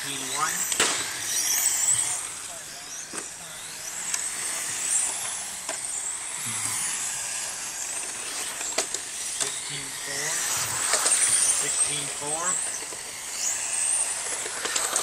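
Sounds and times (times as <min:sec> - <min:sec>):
rc truck motor whine: 0:00.0 - 0:15.0.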